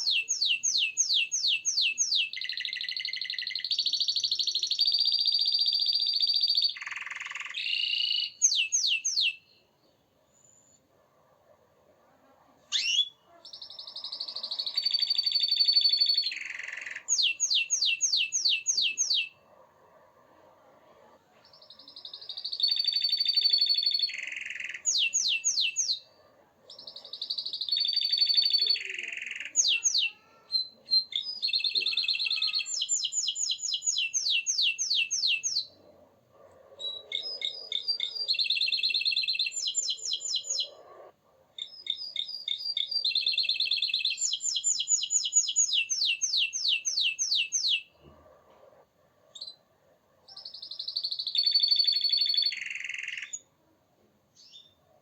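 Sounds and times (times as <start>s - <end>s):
canary singing: 0.0s - 9.7s, 12.6s - 49.7s, 50.3s - 53.6s, 54.3s - 55.0s.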